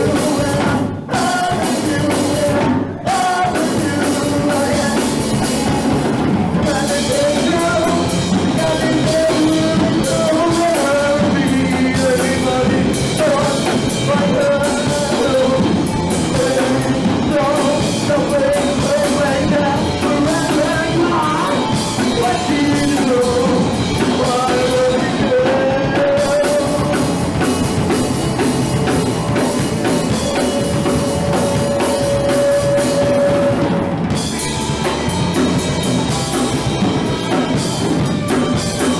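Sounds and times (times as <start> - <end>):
drum kit: 0.0 - 38.9
person singing: 0.0 - 38.9
punk rock band playing live: 0.0 - 38.9.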